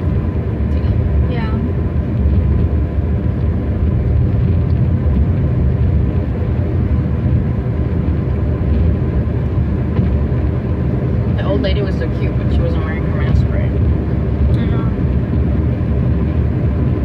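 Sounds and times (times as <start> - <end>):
car engine rumble: 0.0 - 17.0
tyres on road: 0.0 - 17.0.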